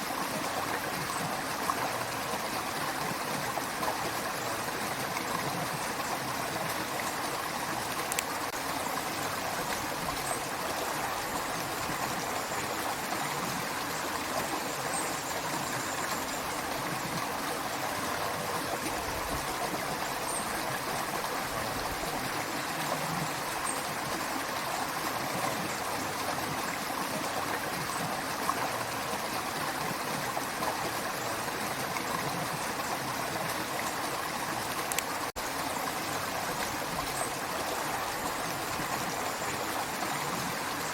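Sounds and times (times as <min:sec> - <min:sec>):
creek water over rocks: 0:00.0 - 0:40.9.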